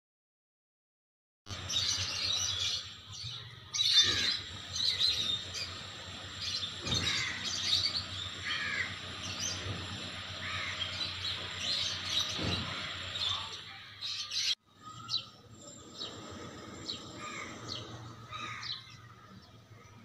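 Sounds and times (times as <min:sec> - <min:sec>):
birds chirping and trilling: 0:01.5 - 0:20.0.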